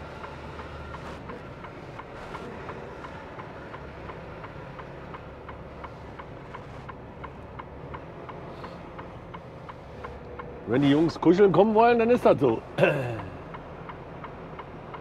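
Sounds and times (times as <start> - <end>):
diesel engine humming: 0.0 - 15.0
turn signal ticking: 0.0 - 15.0.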